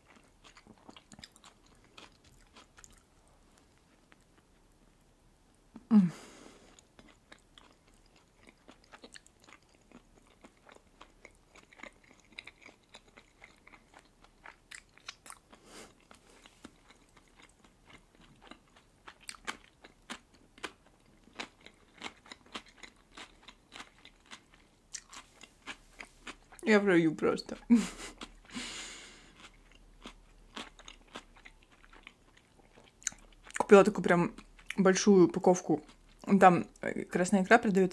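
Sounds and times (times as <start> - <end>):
person chewing wetly: 0.0 - 4.7, 6.7 - 26.7, 28.0 - 34.8, 35.8 - 36.3.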